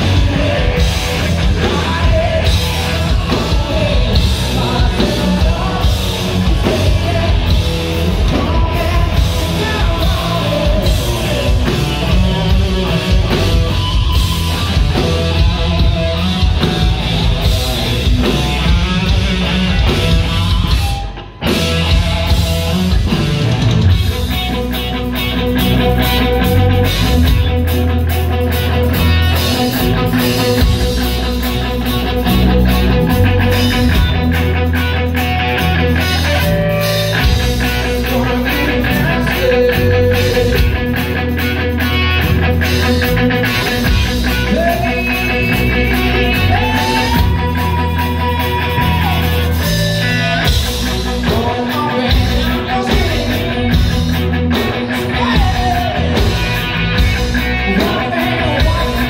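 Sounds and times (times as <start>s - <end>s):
rock band playing loud: 0.0s - 59.0s.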